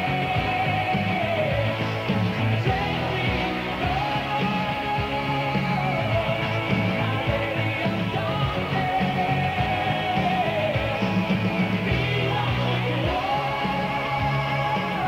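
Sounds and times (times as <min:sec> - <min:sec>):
bass line: 0:00.0 - 0:15.0
drums: 0:00.0 - 0:15.0
sliding lead guitar line: 0:00.0 - 0:15.0.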